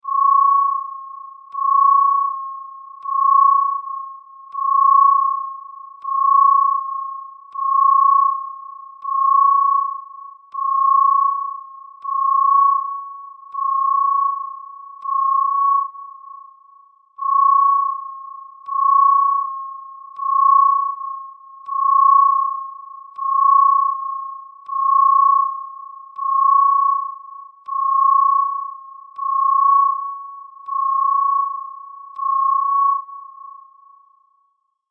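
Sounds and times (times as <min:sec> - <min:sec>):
pulsing electronic alarm tone: 0:00.0 - 0:34.4.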